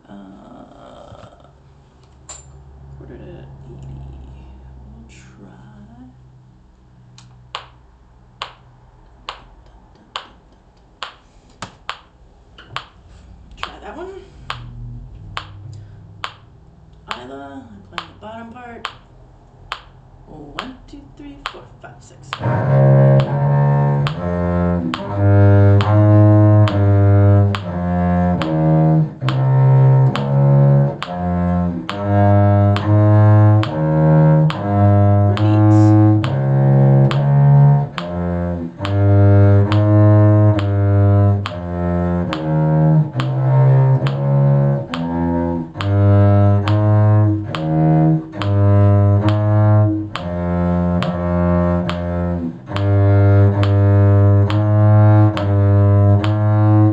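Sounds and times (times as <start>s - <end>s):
cello bowed bass line: 0.0s - 10.3s, 11.9s - 56.9s
metronome ticking: 7.4s - 56.9s.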